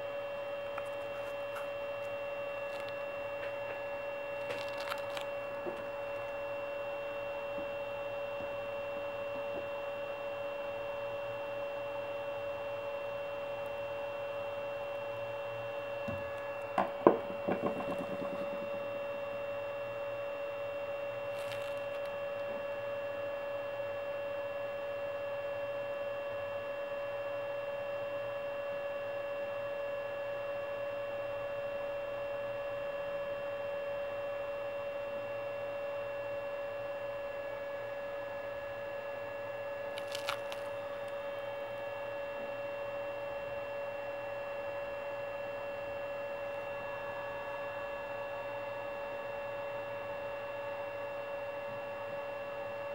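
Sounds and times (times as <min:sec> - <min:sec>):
electrical hum: 0:00.0 - 0:52.9
thin high whine: 0:00.0 - 0:52.9.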